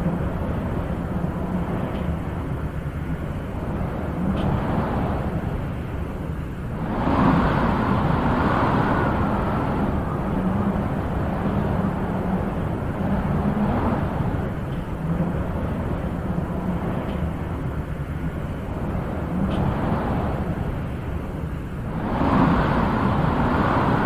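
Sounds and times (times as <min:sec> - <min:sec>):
wind blowing in gusts: 0:00.0 - 0:24.0.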